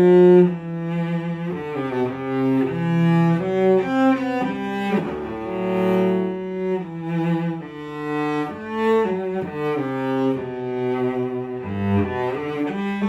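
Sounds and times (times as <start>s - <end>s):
solo cello bowed: 0.0s - 13.0s.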